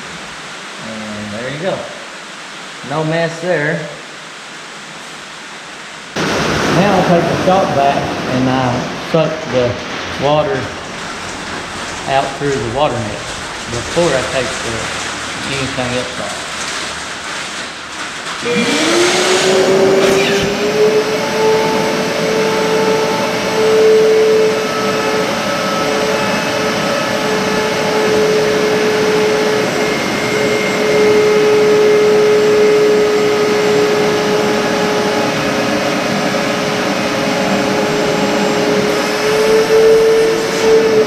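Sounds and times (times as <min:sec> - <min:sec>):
transfer pump whining: 0:06.2 - 0:41.0.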